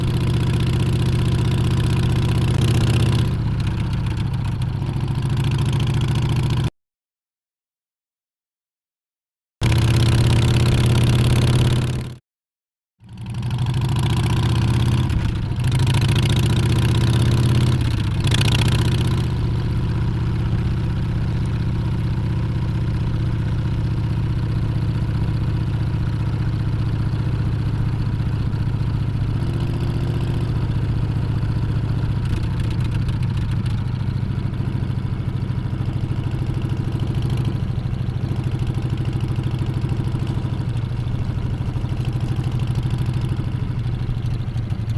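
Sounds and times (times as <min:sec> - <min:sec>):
motorcycle engine revving and idling: 0:00.0 - 0:06.7, 0:09.6 - 0:12.2, 0:13.0 - 0:44.9.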